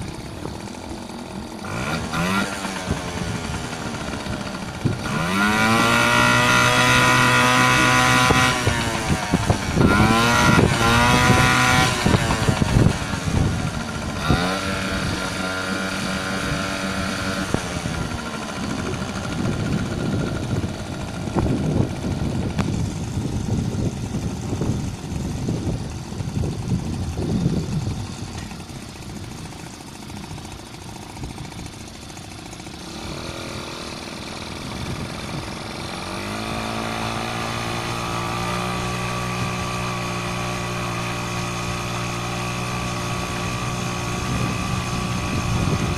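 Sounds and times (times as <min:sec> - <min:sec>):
outboard motor revving: 0:00.0 - 0:45.9.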